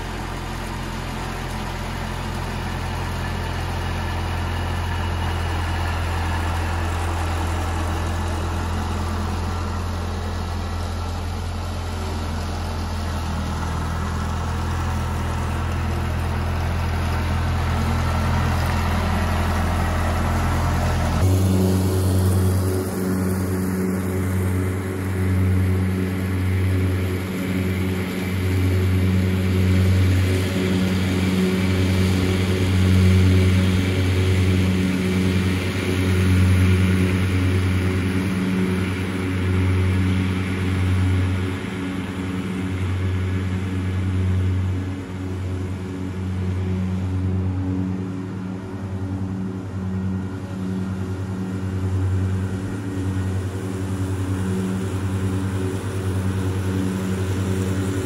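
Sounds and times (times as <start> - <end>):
mower diesel engine running: 0.0 - 58.0.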